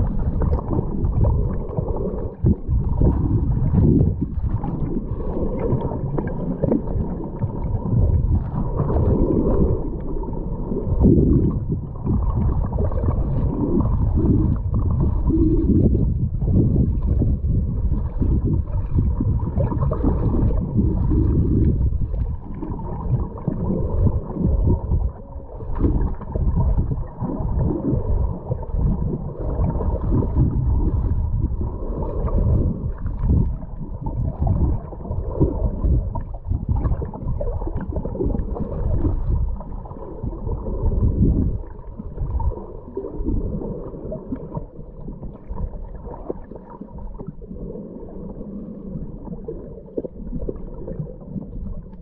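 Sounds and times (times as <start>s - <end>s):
muffled underwater churning: 0.0s - 52.0s.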